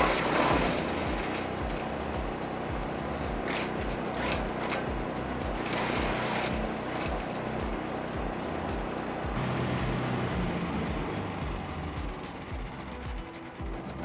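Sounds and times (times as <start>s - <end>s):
background music beat: 0.0s - 14.0s
branches going through chipper: 0.0s - 14.0s
wood chipper engine running: 0.0s - 14.0s.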